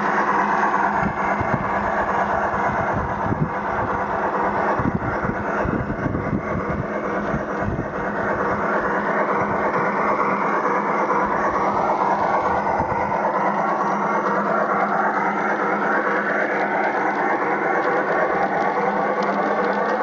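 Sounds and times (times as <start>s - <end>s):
model locomotive steam sounds: 0.0s - 20.0s
wheels rumbling on rails: 0.0s - 20.0s.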